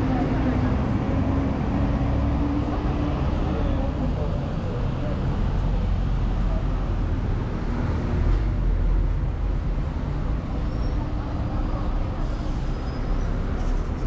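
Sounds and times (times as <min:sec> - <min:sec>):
passing vehicles rumbling: 0:00.0 - 0:14.0.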